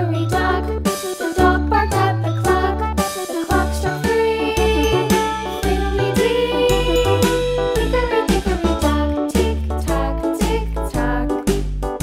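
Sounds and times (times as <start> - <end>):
children's style background music: 0.0 - 12.0.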